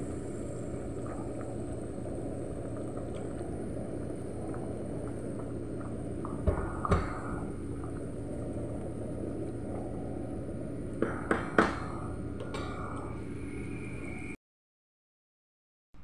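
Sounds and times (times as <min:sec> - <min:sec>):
broth bubbling in a pot: 0:00.0 - 0:14.4.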